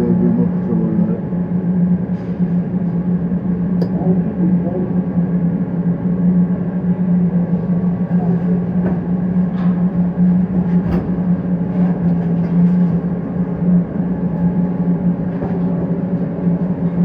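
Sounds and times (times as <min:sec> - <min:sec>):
welding shop machinery hum: 0:00.0 - 0:17.0.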